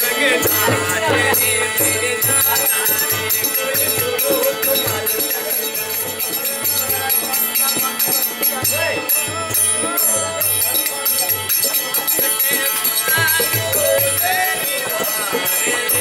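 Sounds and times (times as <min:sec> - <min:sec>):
metal bells jingling: 0:00.0 - 0:16.0.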